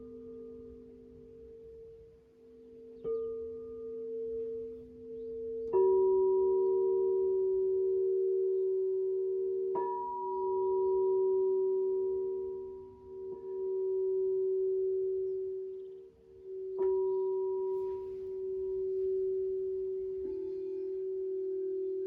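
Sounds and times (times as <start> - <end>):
crystal singing bowls ringing: 0.0 - 22.0.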